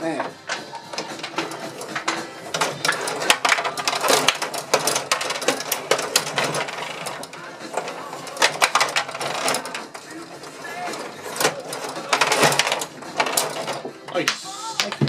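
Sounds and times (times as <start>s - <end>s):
plastic players knocking: 0.0s - 15.0s
table hockey rods clicking and clattering: 0.0s - 15.0s.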